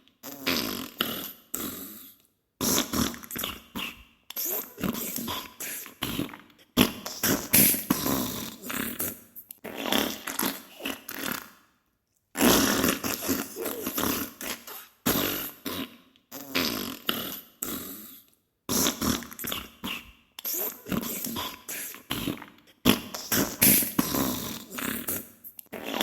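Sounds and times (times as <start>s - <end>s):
crackling fart sounds: 0.0s - 11.7s, 12.3s - 26.0s.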